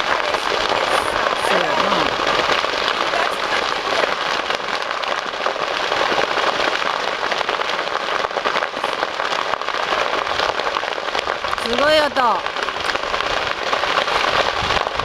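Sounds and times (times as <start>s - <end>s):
brush fire crackling: 0.0s - 15.0s.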